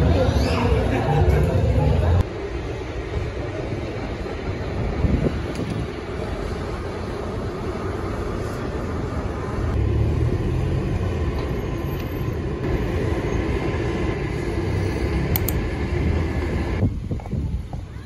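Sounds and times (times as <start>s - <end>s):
low rumble of city traffic: 0.0s - 18.0s.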